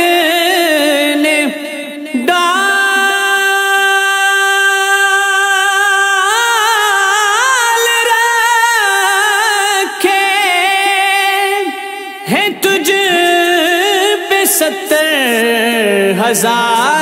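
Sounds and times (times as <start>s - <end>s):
man singing without words: 0.0s - 17.0s.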